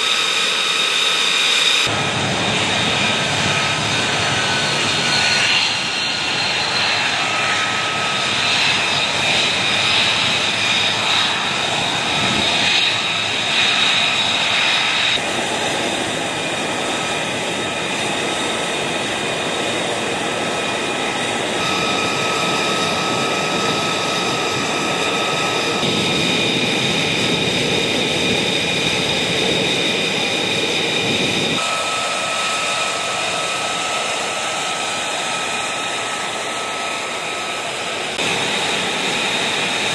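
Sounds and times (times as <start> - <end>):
jet engine whine and roar: 0.0 - 39.9.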